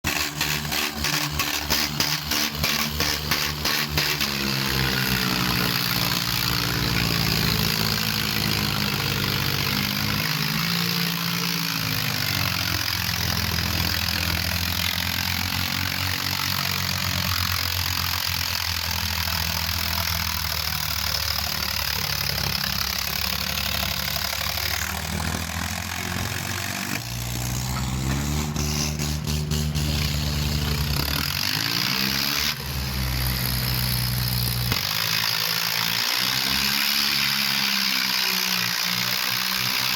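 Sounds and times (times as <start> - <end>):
tractor engines revving: 0.0 - 39.9.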